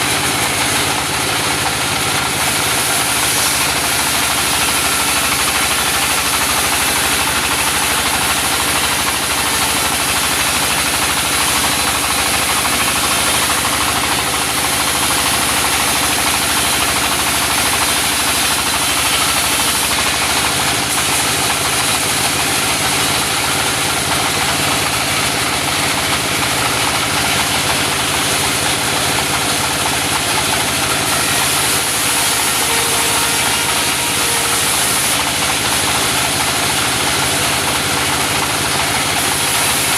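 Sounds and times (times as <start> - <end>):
circular saw machine drone: 0.0 - 39.9.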